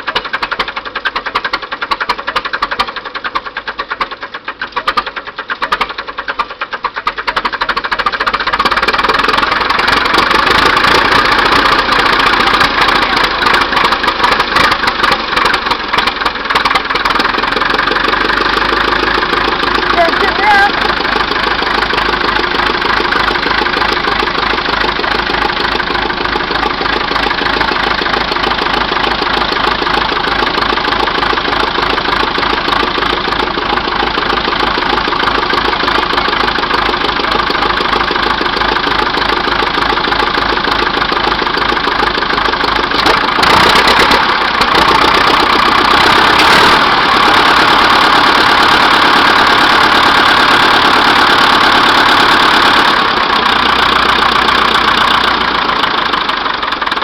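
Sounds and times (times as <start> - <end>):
bulldozer engine running: 0.0 - 57.0.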